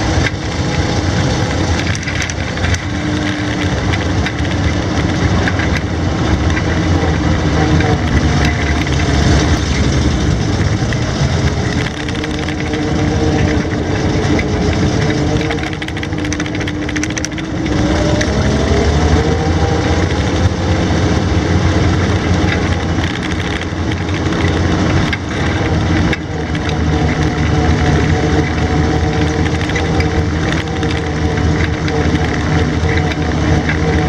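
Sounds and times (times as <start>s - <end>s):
tracks rattling and clicking: 0.0s - 34.0s
vehicle engine running: 0.0s - 34.0s.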